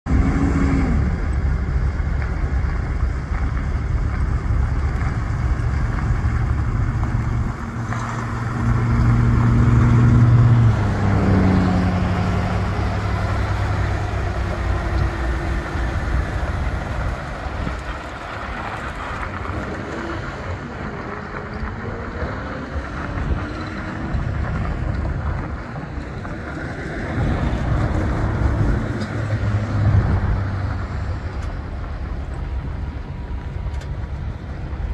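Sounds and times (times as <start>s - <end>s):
truck diesel engine driving: 0.0s - 34.9s.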